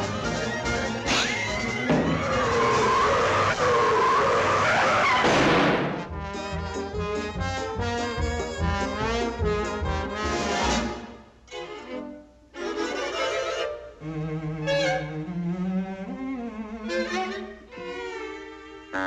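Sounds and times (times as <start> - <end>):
brassy orchestral cartoon music: 0.0 - 5.2, 5.8 - 17.5.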